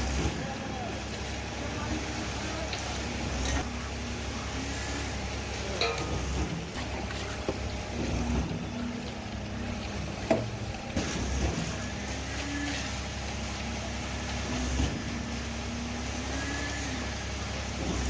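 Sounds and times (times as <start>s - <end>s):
machine engine rumbling: 0.0s - 18.0s.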